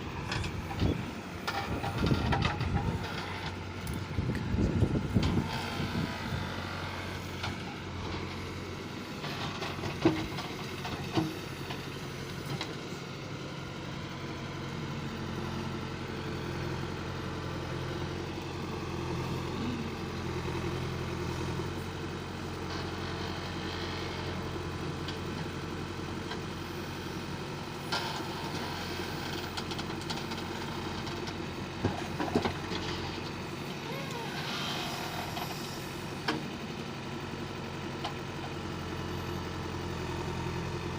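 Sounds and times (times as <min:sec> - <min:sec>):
diesel engines running: 0:00.0 - 0:40.9.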